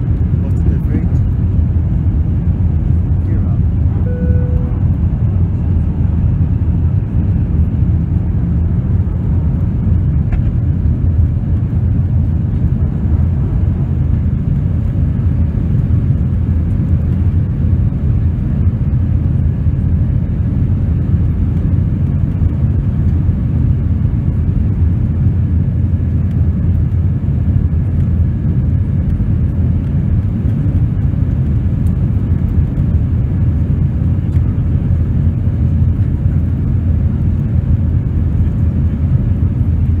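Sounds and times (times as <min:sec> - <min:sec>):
jet airliner cabin rumble: 0:00.0 - 0:40.0.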